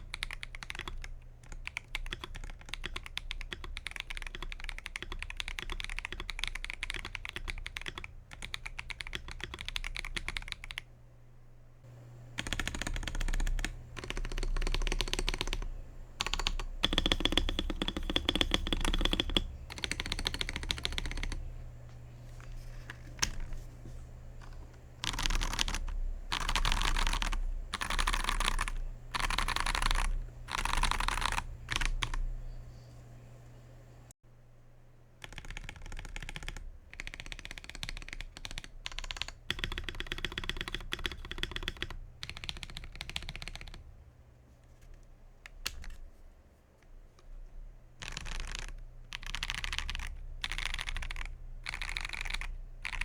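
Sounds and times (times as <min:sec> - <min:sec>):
mechanical keyboard typing: 0:00.0 - 0:10.8, 0:12.2 - 0:21.8, 0:22.8 - 0:23.6, 0:24.3 - 0:32.4, 0:35.2 - 0:43.8, 0:48.0 - 0:53.0
faint steady hum: 0:00.0 - 0:53.0.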